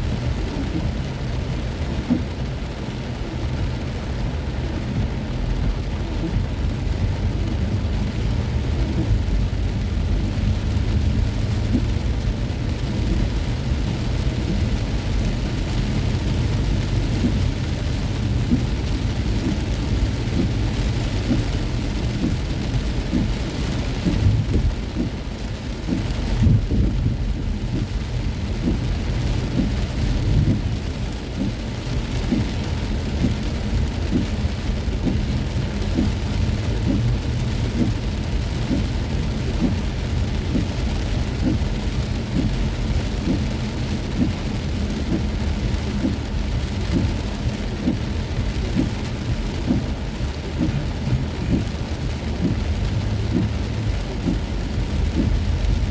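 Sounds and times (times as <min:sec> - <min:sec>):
car and road rumble: 0:00.0 - 0:55.9
heavy rain on a car: 0:00.0 - 0:55.9.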